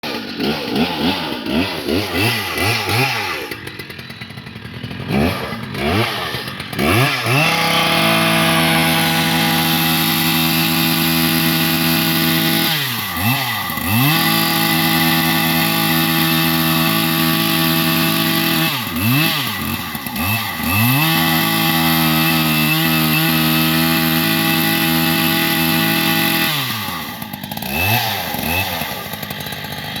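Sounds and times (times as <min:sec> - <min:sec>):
chainsaw engine revving: 0:00.0 - 0:30.0.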